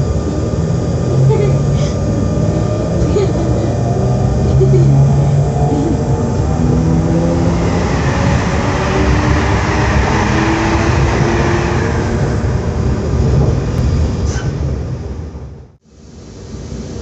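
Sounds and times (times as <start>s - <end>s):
whining tones: 0.0s - 14.8s
electric train running: 0.0s - 15.5s.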